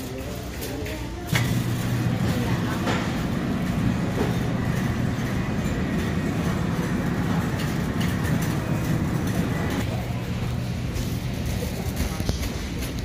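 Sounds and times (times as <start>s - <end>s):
shopping cart rolling and rattling: 0.0s - 13.0s.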